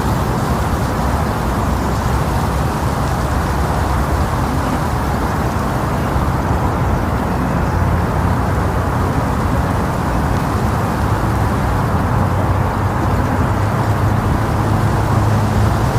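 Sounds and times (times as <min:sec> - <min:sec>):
wind on microphone: 0:00.0 - 0:15.9.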